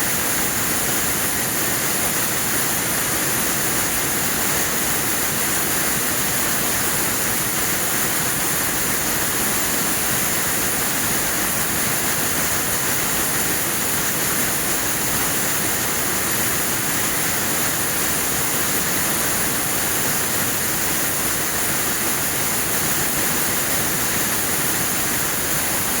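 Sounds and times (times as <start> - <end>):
weaving loom hiss and clatter: 0.0 - 26.0.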